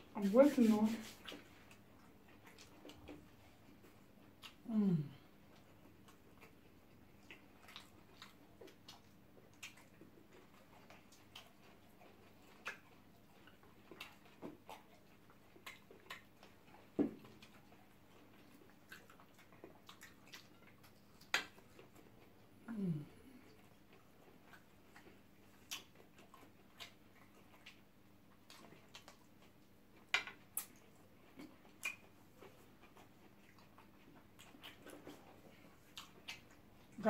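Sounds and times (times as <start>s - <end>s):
chewing clicks and smacks: 5.5s - 22.3s, 23.4s - 37.0s.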